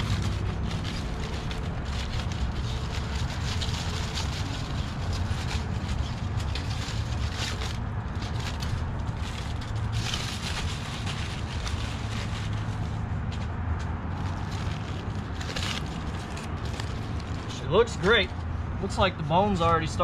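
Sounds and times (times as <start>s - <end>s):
aluminium foil crinkling: 0.0s - 12.8s, 14.1s - 17.6s
steady low rumble: 0.0s - 20.0s.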